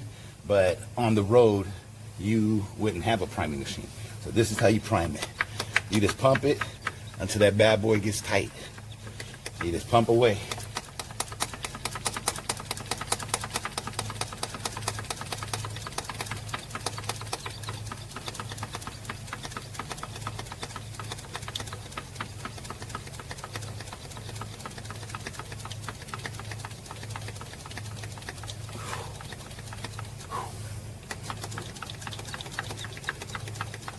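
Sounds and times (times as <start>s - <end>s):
hand fuel pump clicking: 4.4s - 30.4s, 31.0s - 33.9s.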